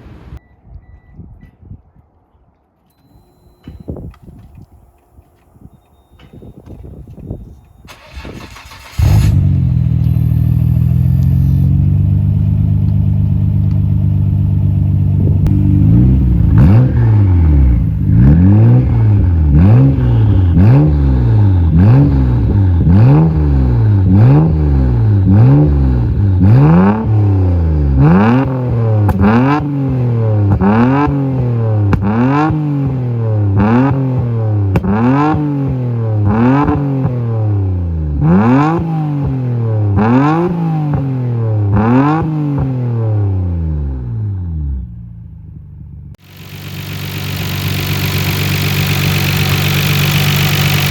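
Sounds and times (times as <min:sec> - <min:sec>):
car engine idling and revving: 0:06.6 - 0:50.9.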